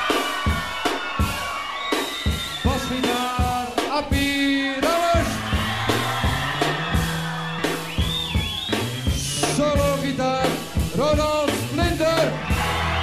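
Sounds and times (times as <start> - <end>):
drum kit beat: 0.0 - 13.0
rock music: 0.0 - 13.0.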